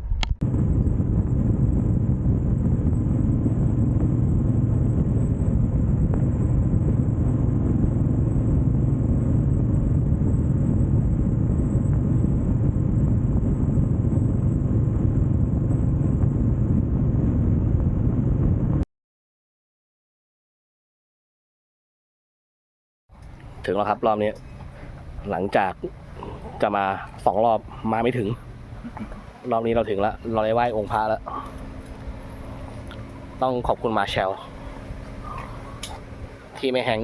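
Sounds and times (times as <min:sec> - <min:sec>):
wind rumble: 0:00.0 - 0:18.8, 0:23.2 - 0:37.0
motorcycle engine: 0:00.5 - 0:16.5, 0:23.2 - 0:37.0.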